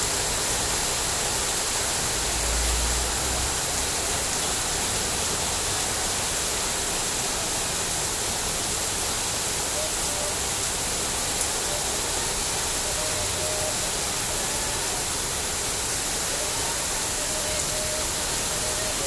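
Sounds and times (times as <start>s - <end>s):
heavy rain on paving: 0.0s - 19.0s.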